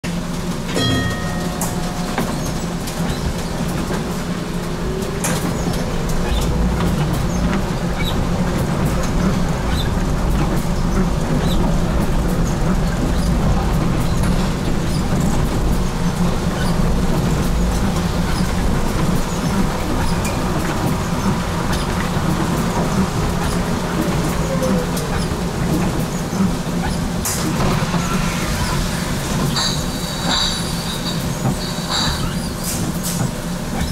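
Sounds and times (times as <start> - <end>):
tram wheels rumbling: 0.0 - 33.9.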